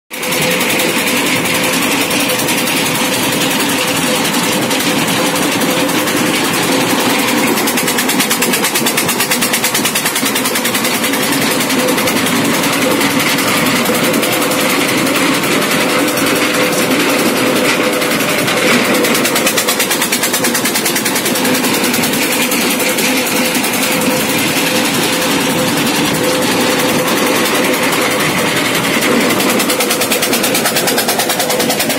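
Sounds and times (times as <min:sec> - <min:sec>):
ice crushing machine running: 0:00.1 - 0:31.9.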